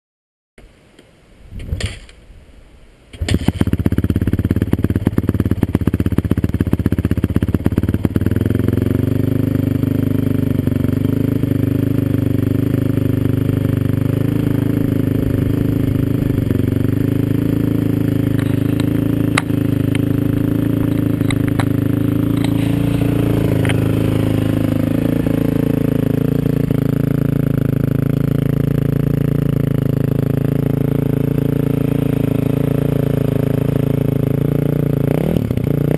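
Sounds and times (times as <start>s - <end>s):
motorcycle engine revving and idling: 3.2s - 35.9s.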